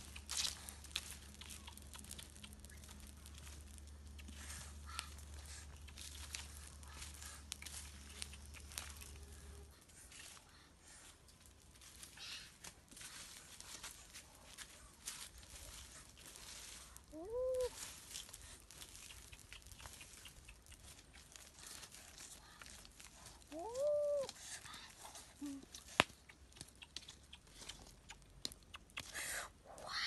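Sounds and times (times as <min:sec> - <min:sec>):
fire crackling and popping: 0:00.0 - 0:29.6.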